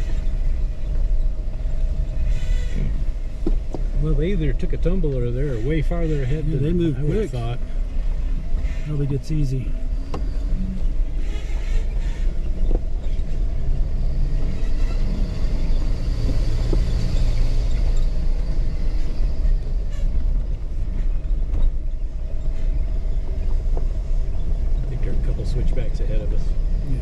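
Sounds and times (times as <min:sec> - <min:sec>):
vehicle engine running at low speed: 0:00.0 - 0:27.0
vehicle rumbling over rocks: 0:00.0 - 0:27.0.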